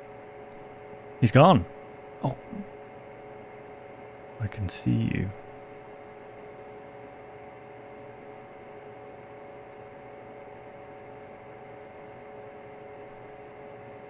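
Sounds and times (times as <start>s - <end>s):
electronic hum drone: 0.0s - 14.0s.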